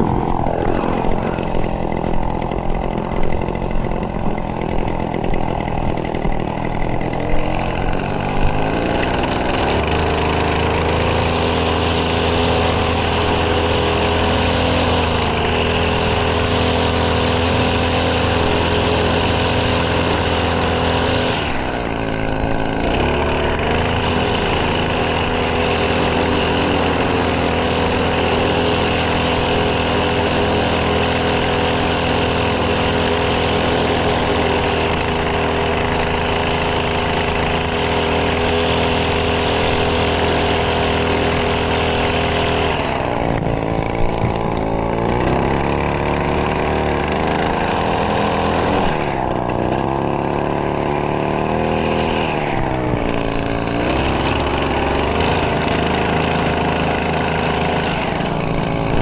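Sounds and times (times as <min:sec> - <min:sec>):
small gasoline engine running: 0:00.0 - 0:59.0.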